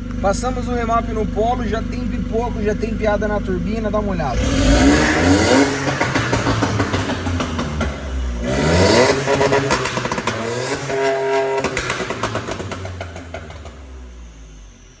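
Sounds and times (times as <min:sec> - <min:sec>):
exhaust crackling and popping: 0:00.0 - 0:15.0
turbo engine revving: 0:00.0 - 0:15.0.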